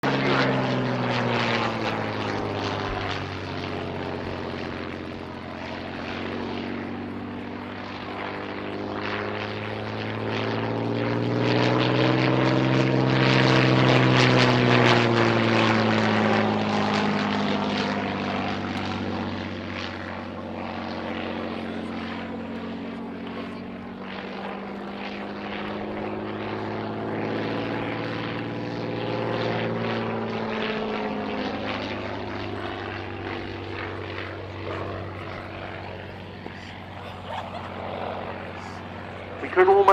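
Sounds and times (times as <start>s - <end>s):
aircraft engine passing: 0.0s - 39.9s.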